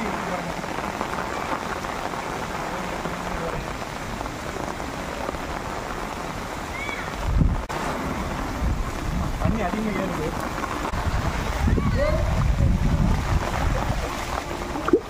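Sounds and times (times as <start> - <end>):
heavy rain on water: 0.0 - 15.0.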